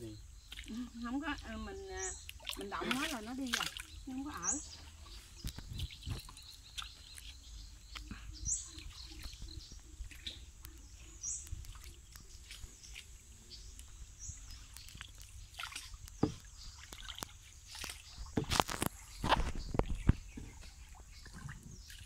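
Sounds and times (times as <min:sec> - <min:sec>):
water sloshing and dripping: 0:00.0 - 0:22.0
water splashes: 0:00.0 - 0:22.0
wooden paddle dipping in water: 0:00.4 - 0:22.0.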